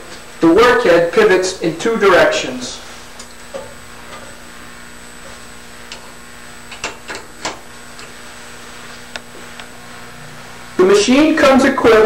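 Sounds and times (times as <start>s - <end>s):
machine hum with high tone: 0.0s - 12.0s.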